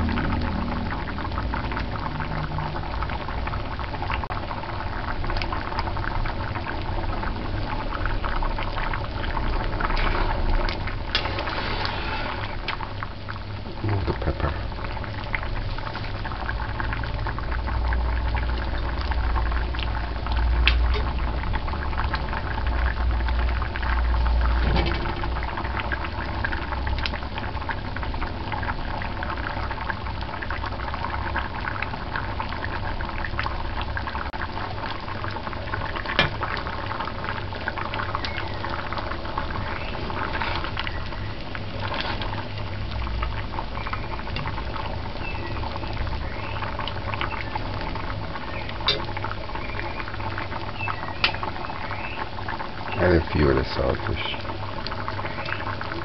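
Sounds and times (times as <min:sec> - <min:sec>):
stew bubbling and popping: 0:00.0 - 0:56.0.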